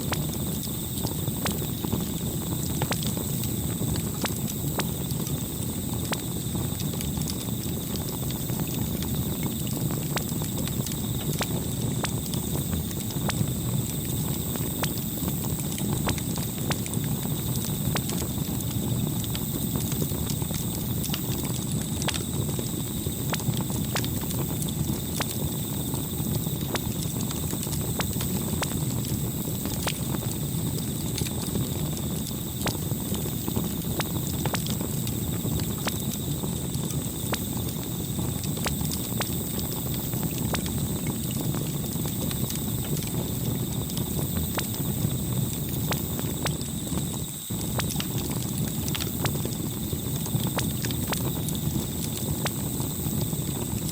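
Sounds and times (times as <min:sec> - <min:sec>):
campfire pops and crackles: 0:00.0 - 0:53.9
fire low rumble: 0:00.0 - 0:53.9.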